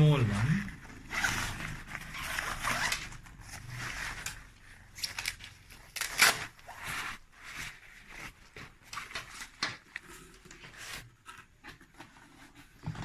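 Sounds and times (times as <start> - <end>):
packaging rustling and scraping: 0.2 - 13.0.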